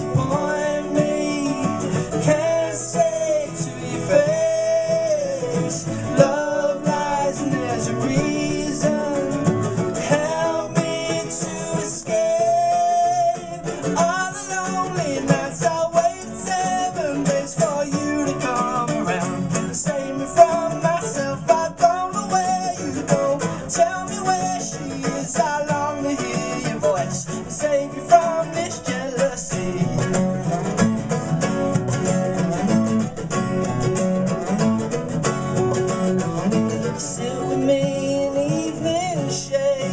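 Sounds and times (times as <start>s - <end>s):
man singing: 0.0s - 30.8s, 36.2s - 39.9s
picked classical guitar: 0.0s - 39.9s
strummed acoustic guitar: 0.0s - 39.9s.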